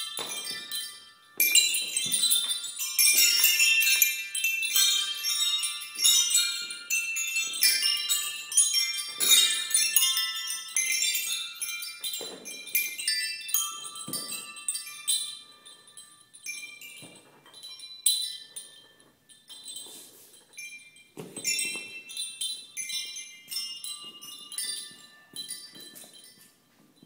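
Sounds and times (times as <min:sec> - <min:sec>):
chime tubes ringing: 0:00.0 - 0:26.8.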